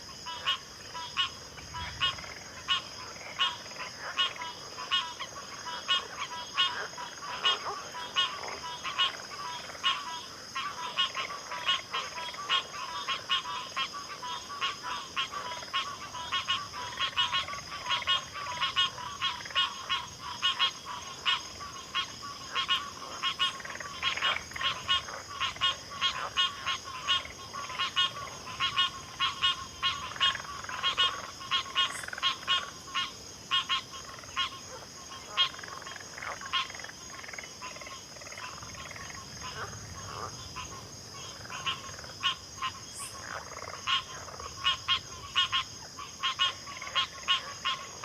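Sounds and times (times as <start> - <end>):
frogs calling: 0.0 - 48.0.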